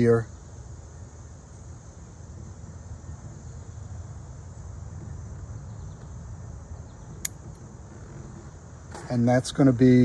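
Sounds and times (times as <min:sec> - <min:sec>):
high insect chirr: 0:00.0 - 0:10.0.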